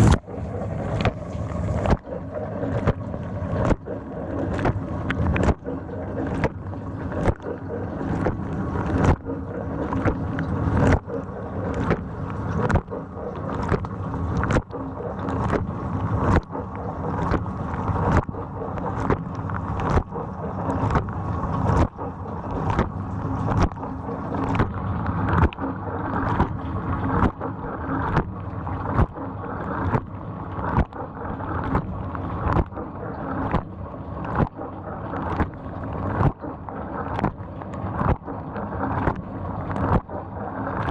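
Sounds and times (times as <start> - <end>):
water sloshing and spraying: 0.0 - 40.9.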